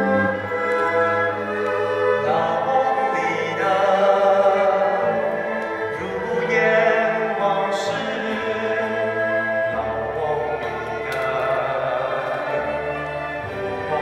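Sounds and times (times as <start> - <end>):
bowed strings: 0.0 - 14.0
operatic singing: 0.0 - 14.0.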